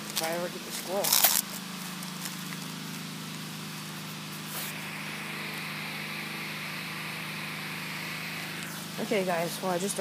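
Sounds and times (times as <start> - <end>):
constant hiss: 0.0 - 10.0
steady low hum: 0.0 - 10.0.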